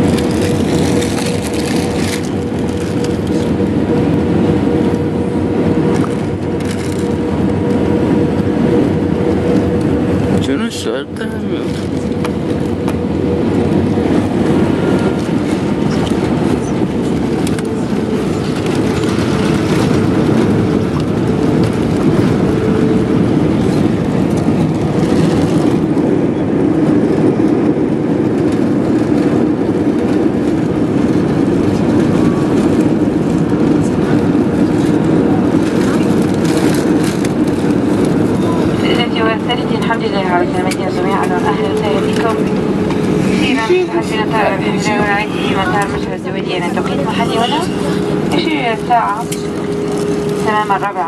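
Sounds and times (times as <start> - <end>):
jet airliner cabin noise: 0.0 - 51.0.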